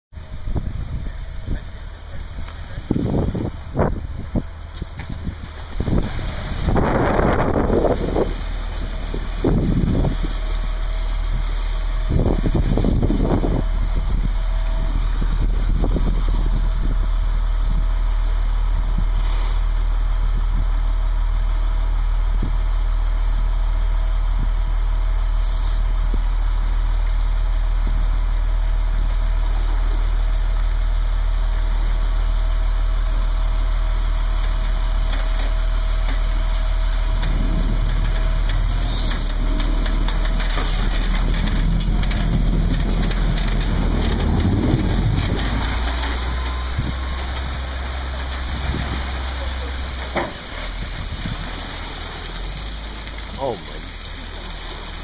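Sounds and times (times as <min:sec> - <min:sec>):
outboard motors rumbling: 0:00.1 - 0:55.0
truck engine idling: 0:00.2 - 0:55.0.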